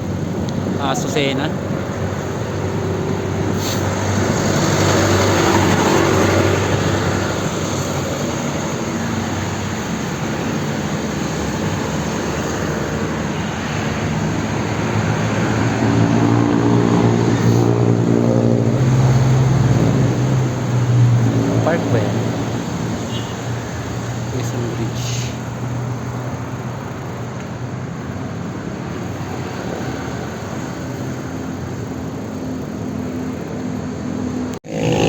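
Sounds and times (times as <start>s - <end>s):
vehicle engines running: 0.0s - 35.0s.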